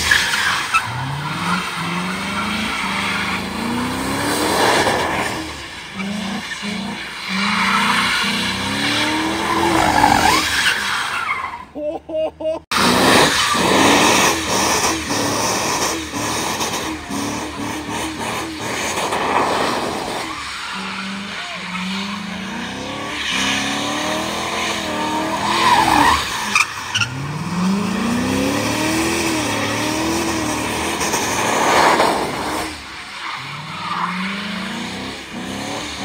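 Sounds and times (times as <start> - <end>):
car engine revving hard: 0.9 - 10.5, 12.7 - 32.8, 33.5 - 36.0.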